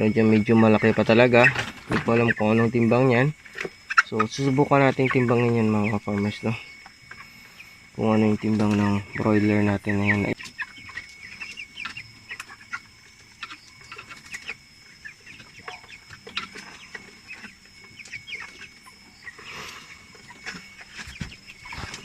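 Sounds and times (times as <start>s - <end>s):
chickens peeping and clucking: 0.0s - 22.0s
faint high whine: 0.0s - 22.0s.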